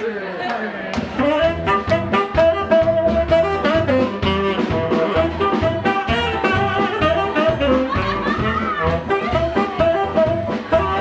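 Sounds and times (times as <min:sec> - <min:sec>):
swing jazz band playing: 0:01.0 - 0:11.0.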